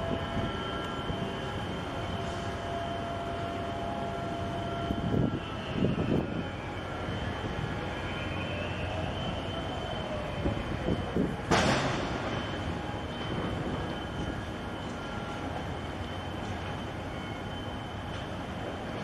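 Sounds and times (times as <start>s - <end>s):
mechanical hum and rumble: 0.0s - 19.0s.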